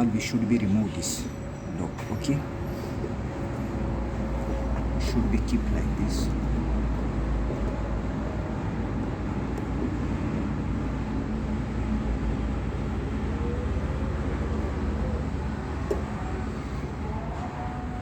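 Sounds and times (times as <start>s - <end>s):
low rumble and hum: 0.0s - 18.0s.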